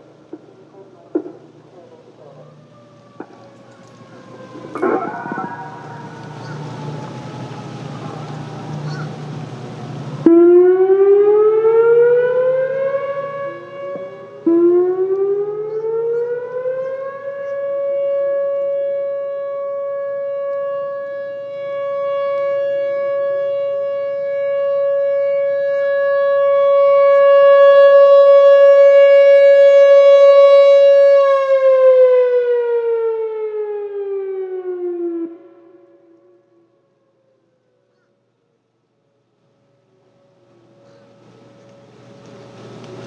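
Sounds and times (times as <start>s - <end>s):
electronic warning siren: 0.0s - 43.0s.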